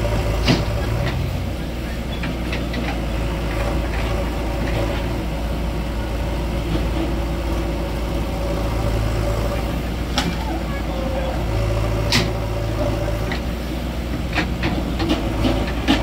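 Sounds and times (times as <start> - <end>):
diesel tractor engines running: 0.0 - 16.0.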